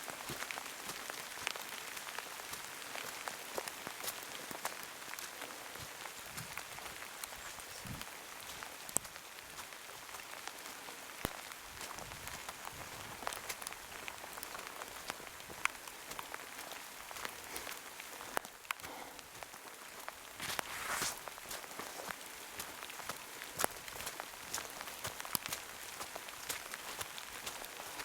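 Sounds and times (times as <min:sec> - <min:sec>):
raindrops ticking close by: 0:00.0 - 0:20.4, 0:21.2 - 0:28.0.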